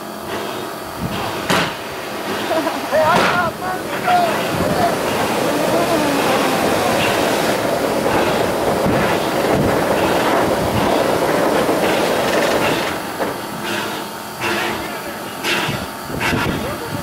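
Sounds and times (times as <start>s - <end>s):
train rolling on rails: 0.0s - 17.0s.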